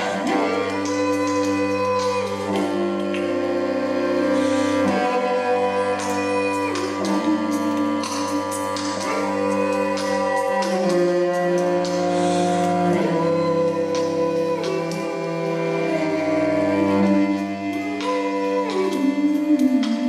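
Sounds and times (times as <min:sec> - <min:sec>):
cello playing slow bowed notes: 0:00.0 - 0:20.0.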